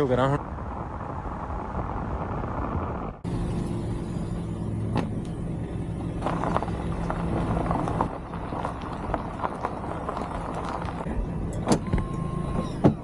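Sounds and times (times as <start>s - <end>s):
car engine humming: 0.0s - 13.0s
car road noise: 0.0s - 13.0s
gravel crackling under tyres: 0.0s - 13.0s.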